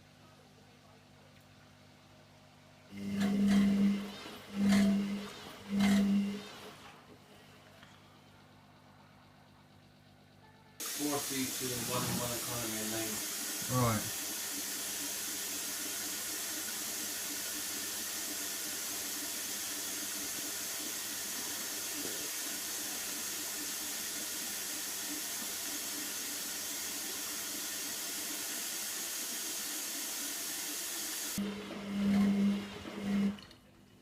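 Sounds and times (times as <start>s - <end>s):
washing machine filling with water: 2.9s - 7.1s, 10.8s - 34.0s.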